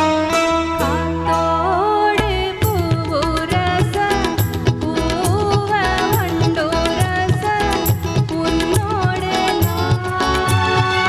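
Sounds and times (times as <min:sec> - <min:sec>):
live band playing: 0:00.0 - 0:11.0
person singing: 0:00.0 - 0:11.0.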